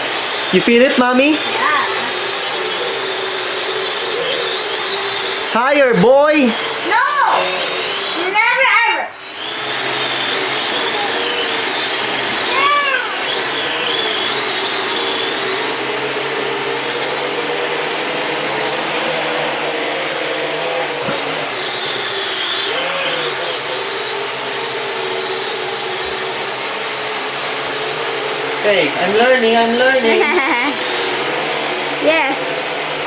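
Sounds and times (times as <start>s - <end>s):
quadcopter propellers whirring: 0.0s - 33.0s.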